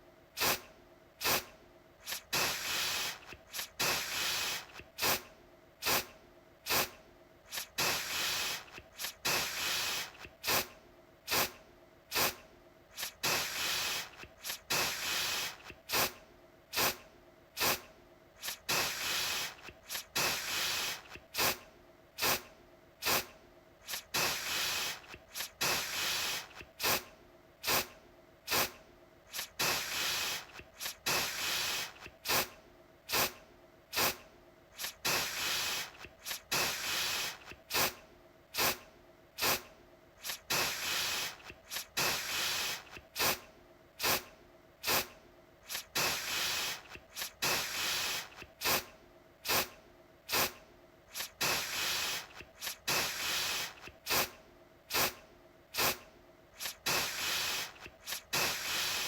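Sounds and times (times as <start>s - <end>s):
aerosol spray can hissing: 0.4s - 6.1s, 6.7s - 10.7s, 11.3s - 17.0s, 17.6s - 21.6s, 22.2s - 27.9s, 28.5s - 34.2s, 34.8s - 38.0s, 38.6s - 38.8s, 39.4s - 43.4s, 44.0s - 55.2s, 55.8s - 56.0s, 56.6s - 59.0s.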